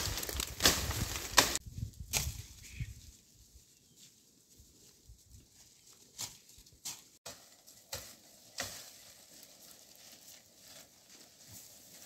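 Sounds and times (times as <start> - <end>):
footsteps on rough ground: 0.0 - 12.0.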